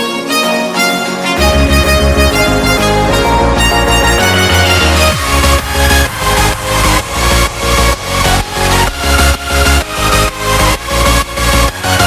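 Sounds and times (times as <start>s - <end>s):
bowed string melody: 0.0s - 12.0s
heavy electronic bass beat: 0.4s - 12.0s.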